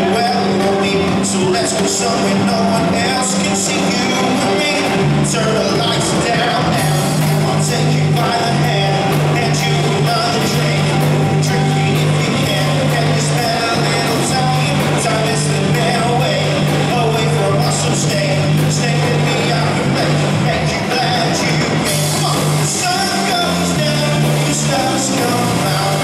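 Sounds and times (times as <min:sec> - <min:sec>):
drums: 0:00.0 - 0:26.0
electric bass line: 0:00.0 - 0:26.0
electric guitar: 0:00.0 - 0:26.0
man singing: 0:00.0 - 0:26.0.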